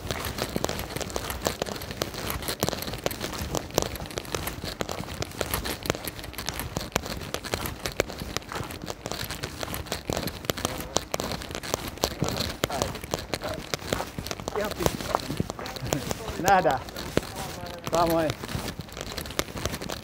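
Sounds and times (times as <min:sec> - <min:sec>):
raindrops ticking: 0:00.0 - 0:20.0
wet steps on slush: 0:00.0 - 0:20.0.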